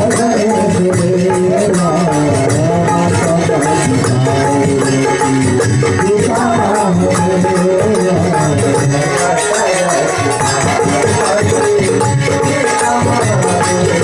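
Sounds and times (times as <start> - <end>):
high jingling percussion: 0.0 - 14.0
person singing into a microphone: 0.0 - 14.0.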